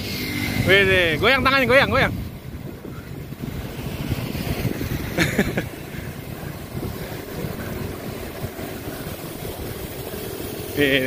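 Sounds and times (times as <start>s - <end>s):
road and tyre rumble: 0.0s - 11.0s
wind buffeting microphone: 0.0s - 11.0s.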